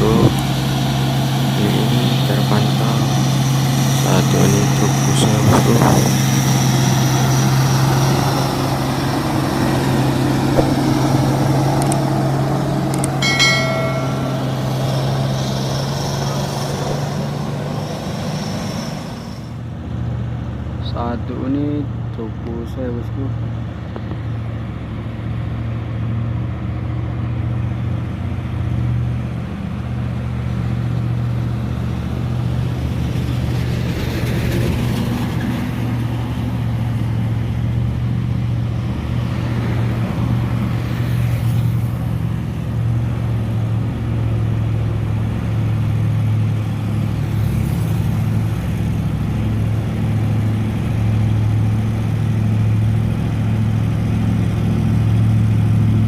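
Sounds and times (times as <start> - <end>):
heavy truck engine droning: 0.0 - 56.0
road noise: 0.0 - 56.0.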